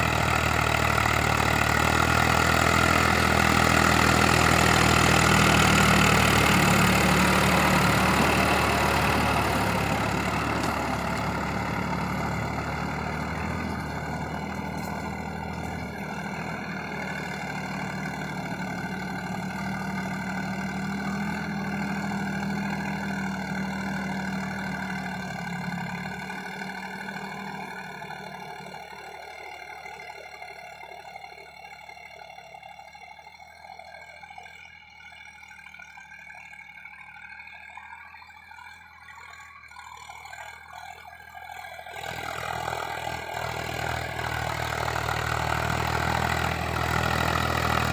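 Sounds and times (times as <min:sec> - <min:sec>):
tractor diesel engine droning: 0:00.0 - 0:47.9.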